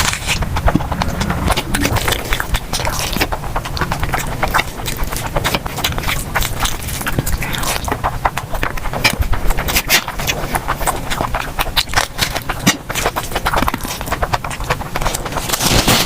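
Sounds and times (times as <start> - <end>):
chewing and lip smacking: 0.0 - 16.0.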